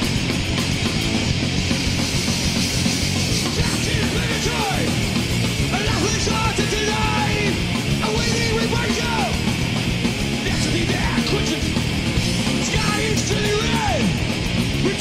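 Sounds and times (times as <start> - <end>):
distorted electric guitars: 0.0 - 15.0
fast drums: 0.0 - 15.0.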